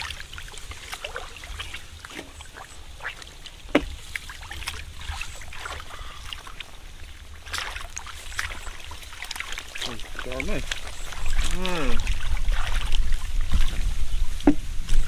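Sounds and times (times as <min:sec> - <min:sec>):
fish thrashing in shallow water: 0:00.0 - 0:15.0
hands scooping through muddy water: 0:00.0 - 0:15.0.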